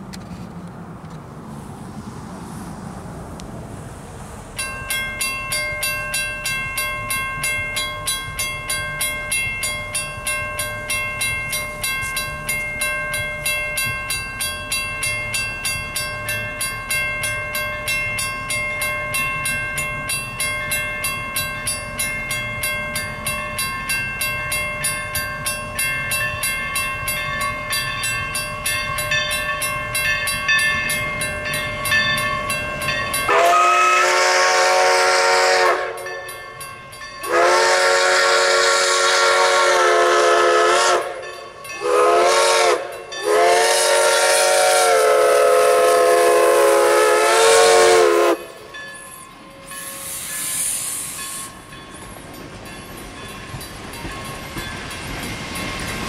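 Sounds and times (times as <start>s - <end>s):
steam locomotive chuffing: 4.4s - 56.0s.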